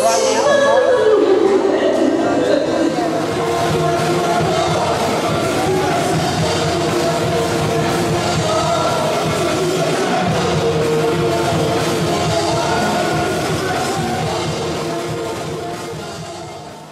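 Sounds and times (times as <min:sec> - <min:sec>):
band music with singing: 0:00.0 - 0:16.9.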